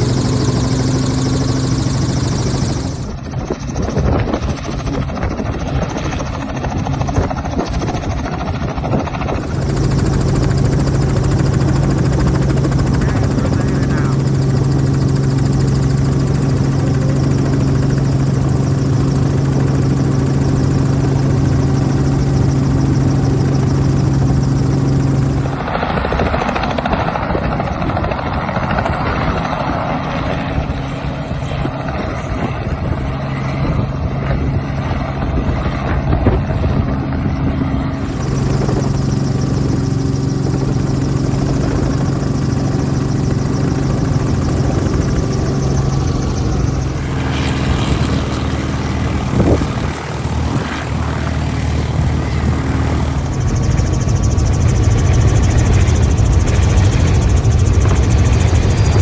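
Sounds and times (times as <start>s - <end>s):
helicopter low hum: 0.0s - 59.0s
rough helicopter rotor noise: 0.0s - 59.0s.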